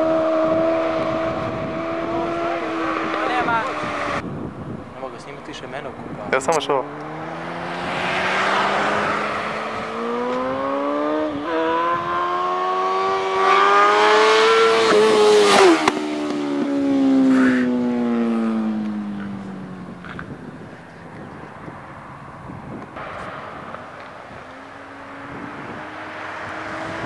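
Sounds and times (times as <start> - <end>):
motorcycle accelerating past: 0.0 - 4.7, 6.6 - 27.0.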